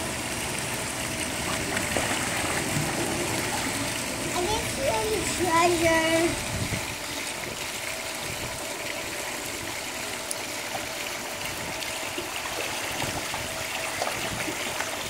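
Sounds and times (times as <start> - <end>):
pool water trickling and lapping: 0.0 - 15.0.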